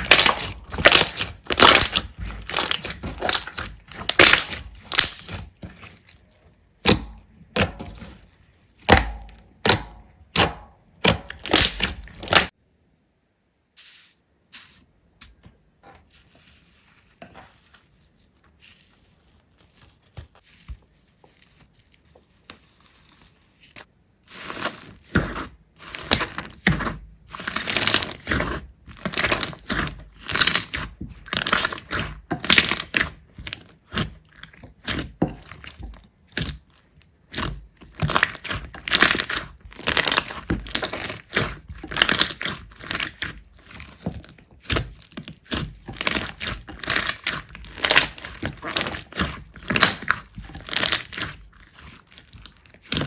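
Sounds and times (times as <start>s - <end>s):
slime squishing: 0.0s - 12.6s, 16.0s - 53.0s.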